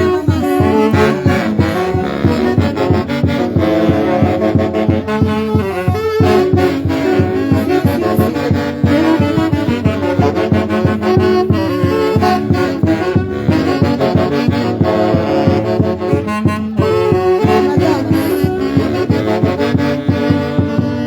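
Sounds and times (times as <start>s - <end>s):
saxophones playing melody: 0.0s - 21.0s
steady bass beat: 0.0s - 21.0s.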